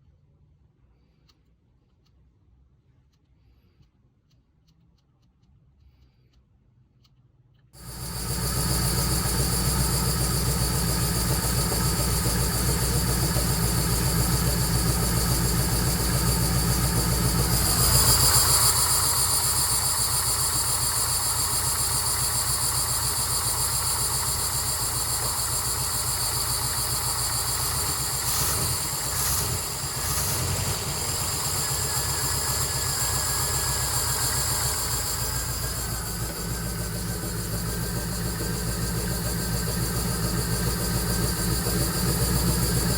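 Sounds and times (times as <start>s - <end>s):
car engine idling: 7.8s - 42.9s.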